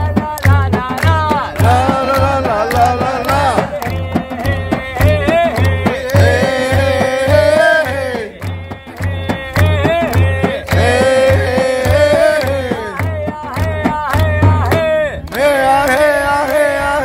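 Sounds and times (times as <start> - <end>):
hand drum beating: 0.0 - 15.2
people clapping: 0.0 - 17.0.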